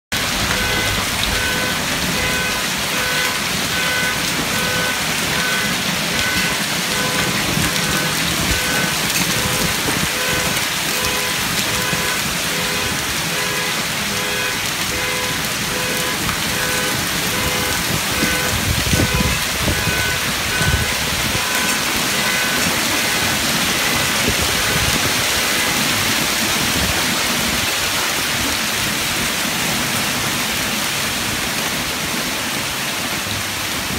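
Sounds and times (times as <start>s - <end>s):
hail clattering: 0.2s - 28.7s.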